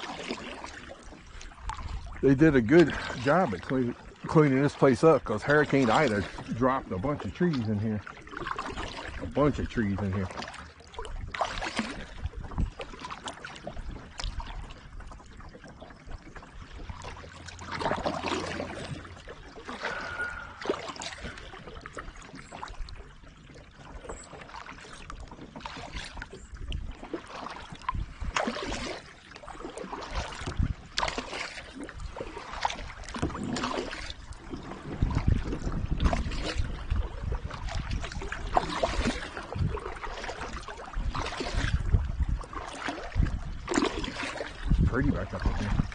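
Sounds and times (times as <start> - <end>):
kayak paddle splashing: 0.0 - 45.9.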